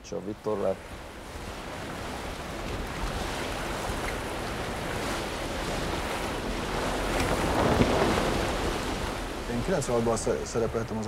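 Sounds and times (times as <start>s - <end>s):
water rushing along hull: 0.0s - 11.0s
wind on microphone: 0.8s - 11.0s.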